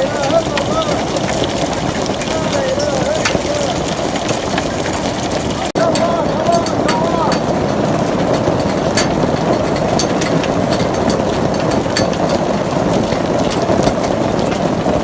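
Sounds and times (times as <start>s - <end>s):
hailstones striking: 0.0s - 15.0s
heavy rain: 0.0s - 15.0s.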